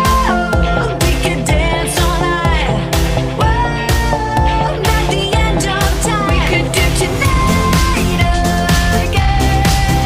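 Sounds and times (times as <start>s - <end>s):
pop music with steady beat: 0.0s - 10.0s.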